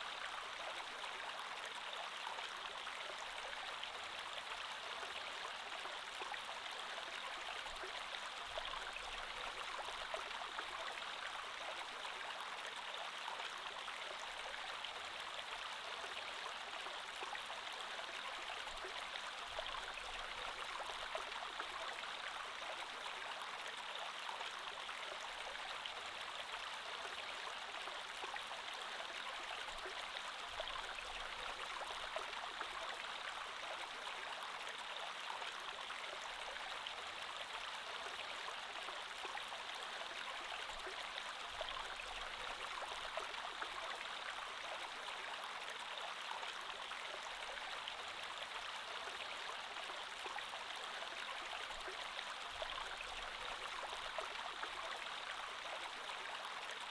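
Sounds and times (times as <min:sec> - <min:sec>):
creek water flowing over stones: 0:00.0 - 0:56.9.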